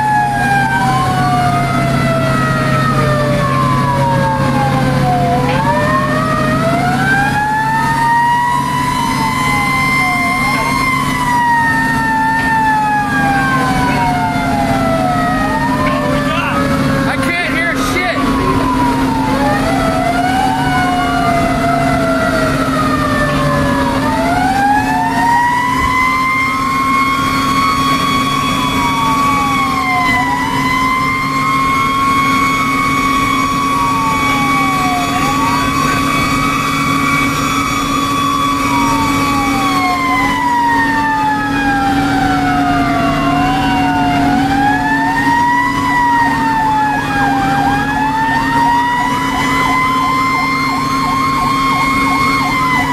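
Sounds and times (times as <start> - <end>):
siren sweeping up and down: 0.0 - 52.9
siren winding up and down: 0.0 - 52.9
truck engine droning: 0.0 - 52.9.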